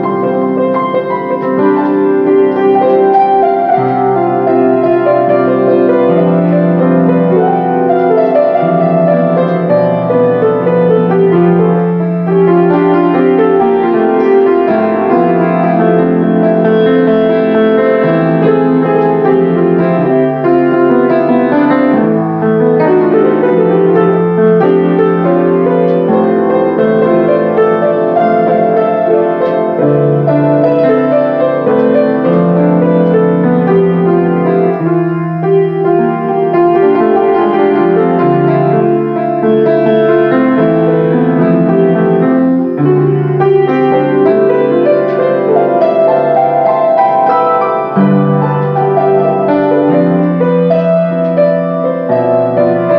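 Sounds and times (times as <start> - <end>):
solo grand piano: 0.0 - 52.9.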